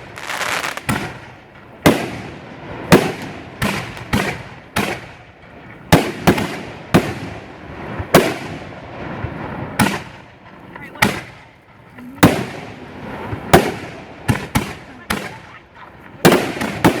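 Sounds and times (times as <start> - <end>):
fireworks bursting with bangs: 0.0 - 17.0.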